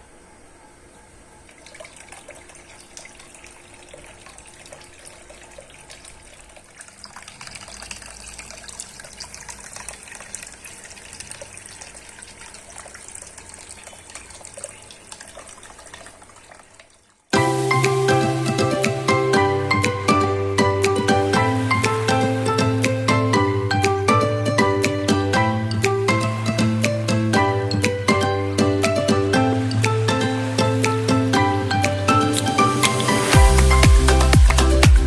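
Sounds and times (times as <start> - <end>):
water splashing in a fountain: 1.5 - 35.0.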